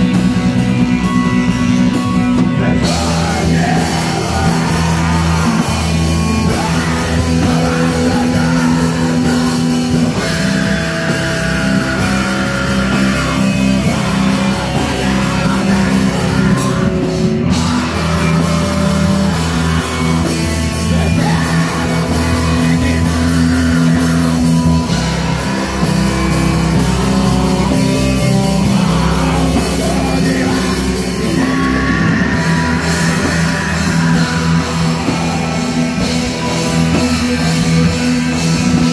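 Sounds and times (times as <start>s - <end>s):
bass guitar: 0.0s - 38.9s
distorted electric guitar: 0.0s - 38.9s
drum kit: 0.0s - 38.9s
person singing: 0.0s - 38.9s.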